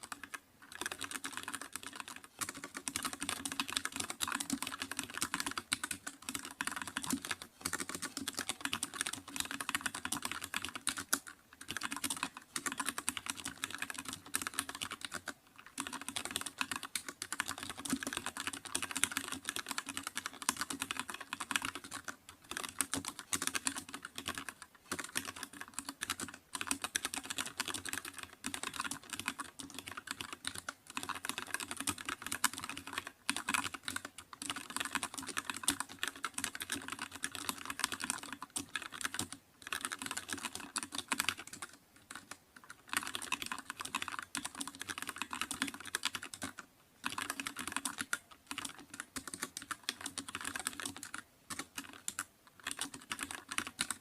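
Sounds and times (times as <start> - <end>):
typing on computer keyboard: 0.0 - 54.0.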